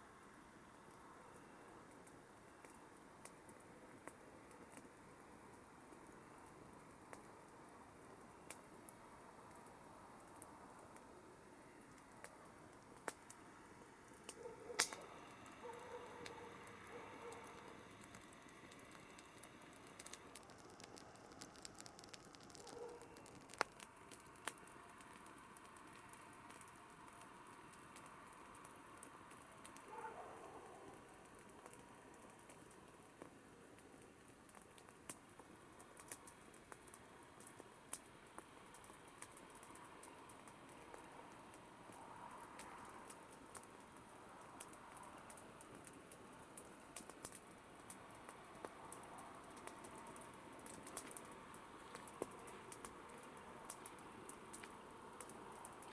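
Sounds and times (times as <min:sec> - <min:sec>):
campfire crackling: 0:00.0 - 0:55.9
sharp pops of fire: 0:00.1 - 0:55.9.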